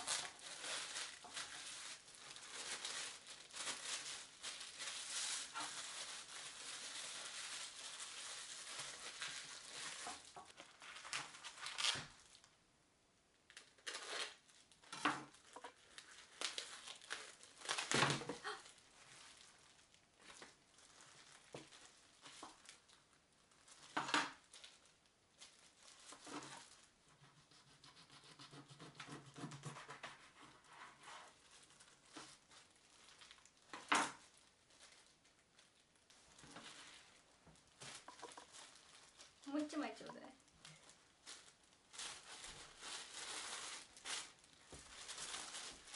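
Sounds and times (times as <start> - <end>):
plastic wrap crinkling: 0.0 - 12.6, 13.4 - 27.2, 30.2 - 45.9.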